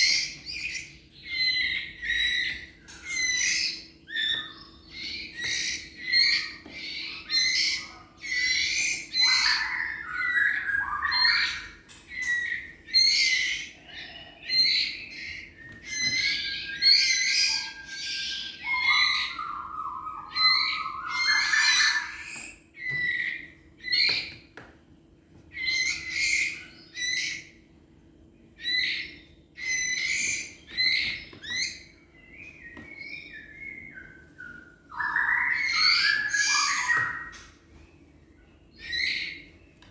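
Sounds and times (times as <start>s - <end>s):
songbird singing: 0.0s - 24.6s, 25.5s - 39.9s.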